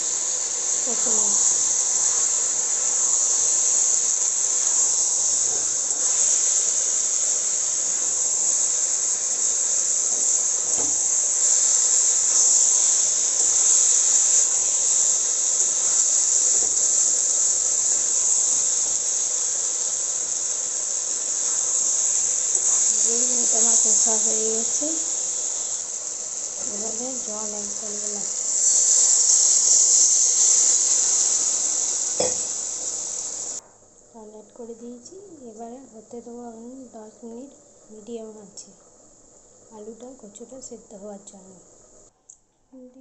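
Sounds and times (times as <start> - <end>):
vegetables sizzling in a wok: 0.0 - 42.2.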